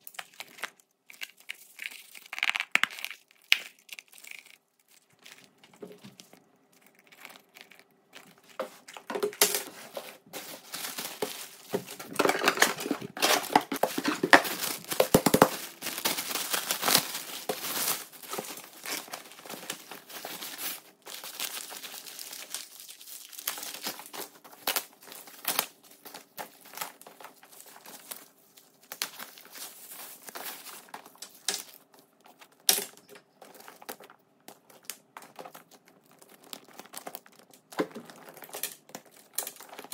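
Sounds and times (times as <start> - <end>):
wrapping paper rustling: 0.0 - 39.9.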